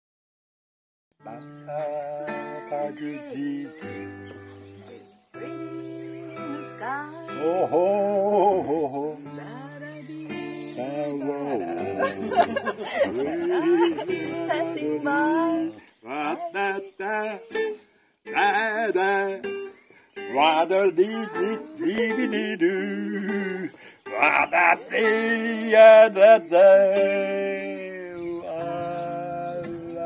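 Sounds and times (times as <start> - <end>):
acoustic guitar strumming: 1.2 - 30.0
man singing: 1.2 - 30.0.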